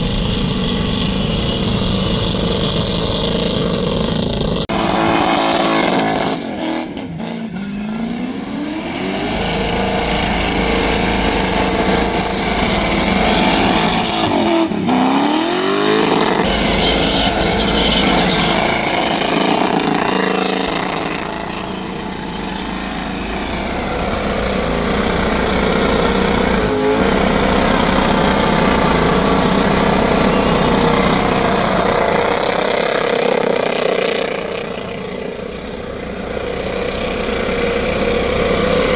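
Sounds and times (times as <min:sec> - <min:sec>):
car engine revving high: 0:00.0 - 0:38.9.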